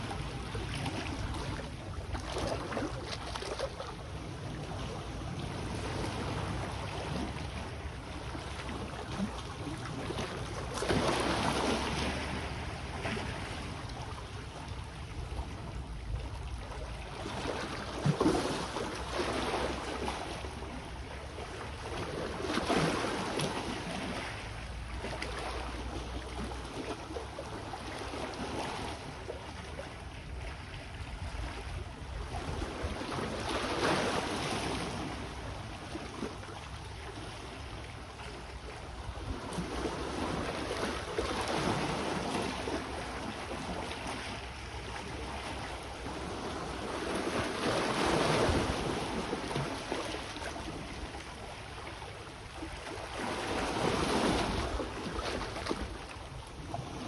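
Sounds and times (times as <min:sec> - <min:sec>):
small sea waves washing: 0:00.0 - 0:57.0.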